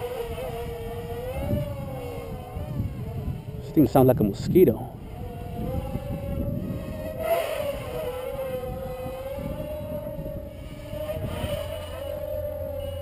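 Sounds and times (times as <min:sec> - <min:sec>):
quadcopter motors buzzing: 0:00.0 - 0:13.0.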